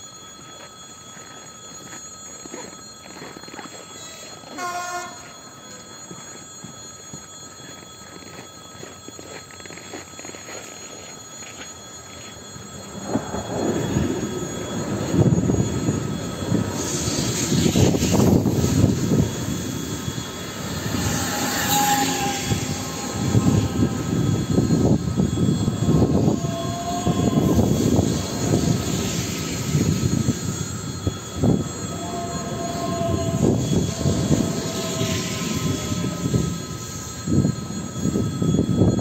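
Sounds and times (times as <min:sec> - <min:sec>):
short high tones: 0:00.0 - 0:39.0
train wheels rumbling on rails: 0:00.0 - 0:39.0.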